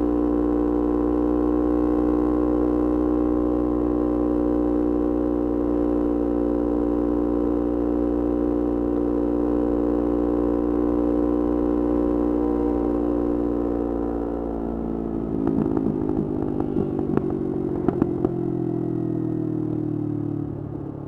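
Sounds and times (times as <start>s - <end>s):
motorcycle engine humming: 0.0s - 21.0s.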